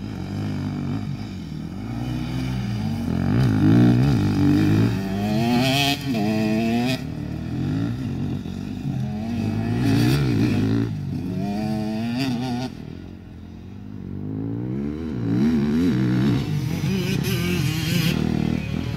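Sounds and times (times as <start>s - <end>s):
dirt bike engines revving: 0.0s - 18.9s.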